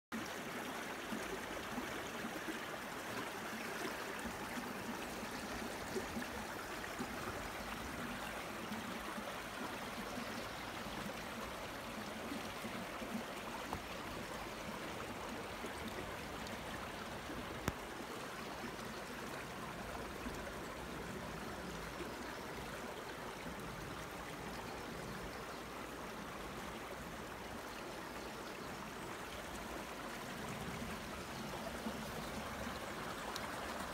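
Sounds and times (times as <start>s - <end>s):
brook flowing water: 0.1s - 33.9s.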